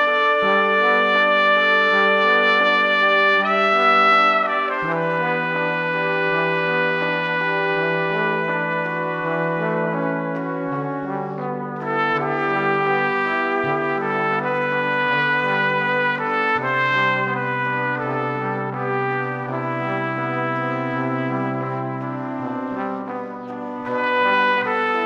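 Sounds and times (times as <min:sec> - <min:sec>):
instrumental music of held chords: 0:00.0 - 0:25.0.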